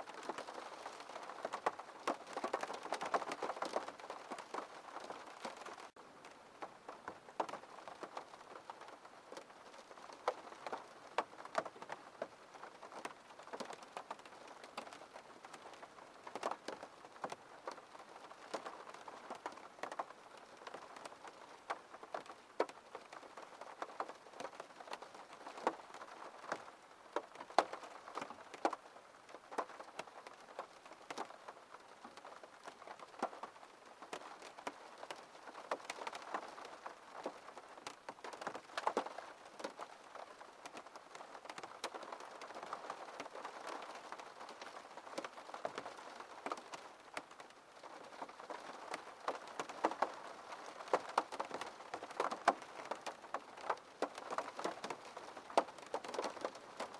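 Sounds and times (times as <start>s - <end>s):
rain pattering on window: 0.0s - 56.9s.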